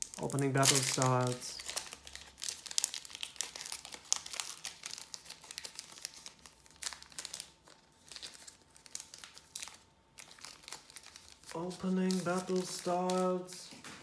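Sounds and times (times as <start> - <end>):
foil wrapper crinkling: 0.0 - 13.8.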